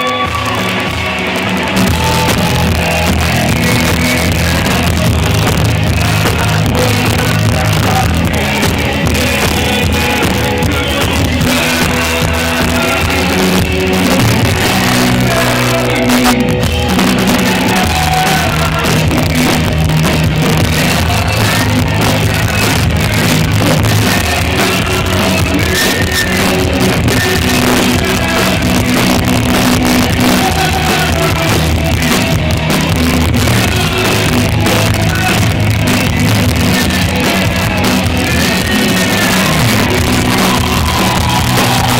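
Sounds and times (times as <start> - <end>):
person singing: 0.0 - 41.9
rock band playing live: 0.0 - 41.9.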